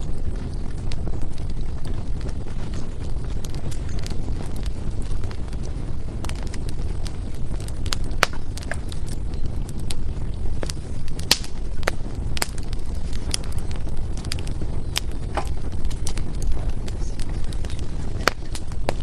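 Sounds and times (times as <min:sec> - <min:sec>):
low fire rumble: 0:00.0 - 0:19.0
wood fire crackling and popping: 0:00.0 - 0:19.0.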